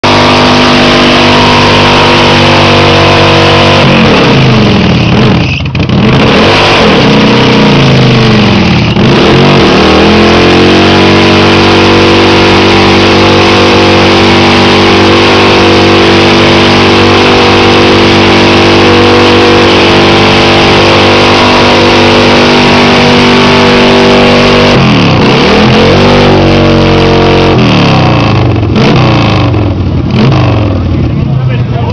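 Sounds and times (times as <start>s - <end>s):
car engine revving loudly: 0.0s - 31.2s.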